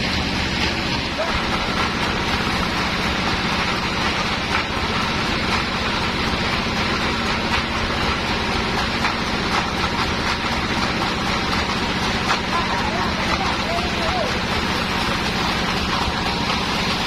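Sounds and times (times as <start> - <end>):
sawmill machinery hum and hiss: 0.0 - 17.0.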